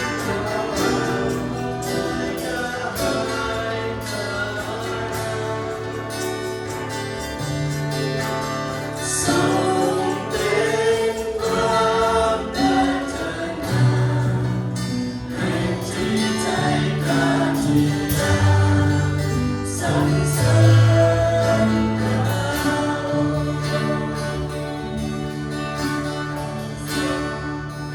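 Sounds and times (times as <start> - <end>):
band with moving bass line: 0.0 - 27.9
group of voices singing: 0.0 - 27.9.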